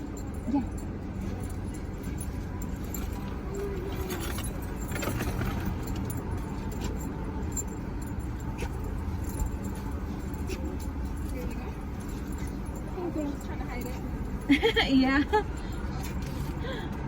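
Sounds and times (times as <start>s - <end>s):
car idling rumble: 0.0s - 17.0s
metallic jingling and clicks: 0.0s - 17.0s.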